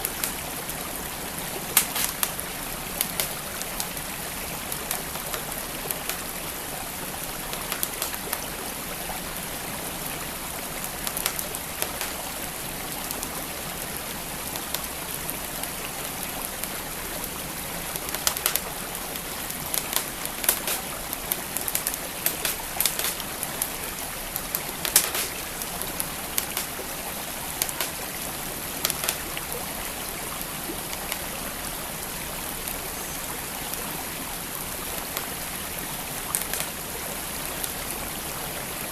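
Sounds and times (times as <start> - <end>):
wood fire crackling: 0.0 - 13.4, 14.0 - 30.2, 34.4 - 37.8
stream flowing: 0.0 - 38.9.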